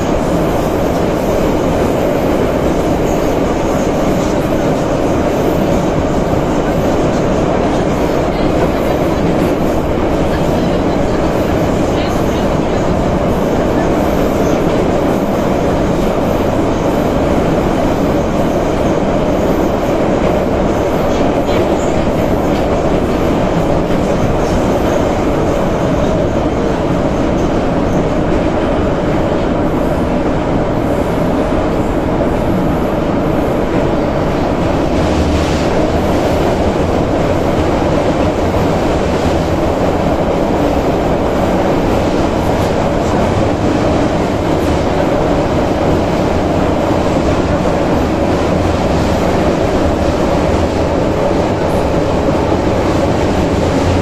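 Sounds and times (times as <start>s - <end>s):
metro train wheels on rail: 0.0s - 54.0s.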